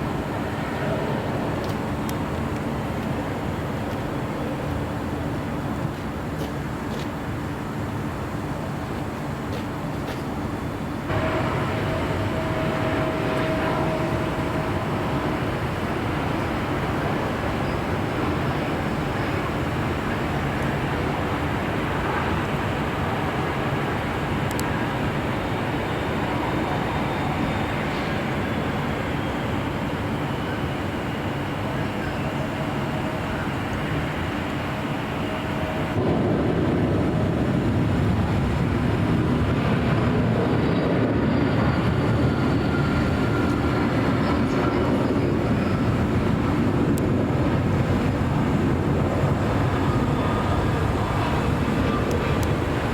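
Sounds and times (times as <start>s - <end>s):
faint steady whine: 0.0s - 52.9s
jet airliner engine noise: 0.0s - 52.9s.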